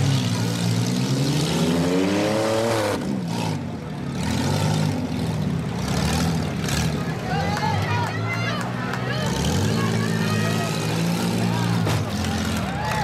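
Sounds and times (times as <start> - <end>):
car engine revving: 0.0 - 7.3, 9.0 - 12.8
car engines running: 0.0 - 13.0.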